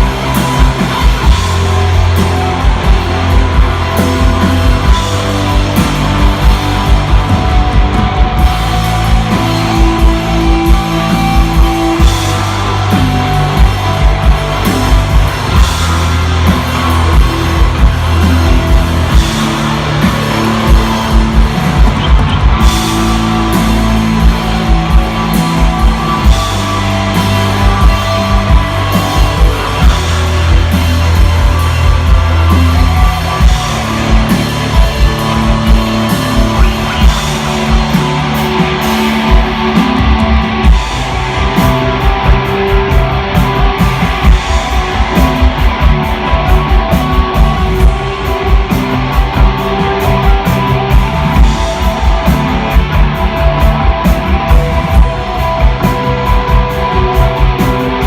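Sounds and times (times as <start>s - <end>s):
bass guitar notes: 0.0s - 58.0s
drum kit beat: 0.0s - 58.0s
electric guitar: 0.0s - 58.0s.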